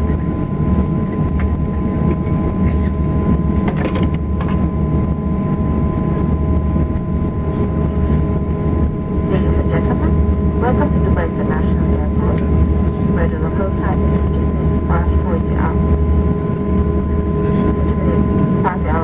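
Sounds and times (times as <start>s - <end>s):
aircraft engines rumbling: 0.0s - 19.0s
constant whining tones: 0.0s - 19.0s.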